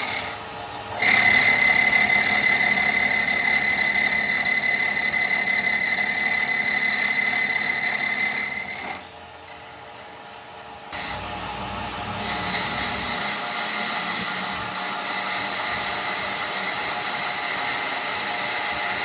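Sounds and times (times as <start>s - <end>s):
power tool whining on metal: 0.0s - 19.0s.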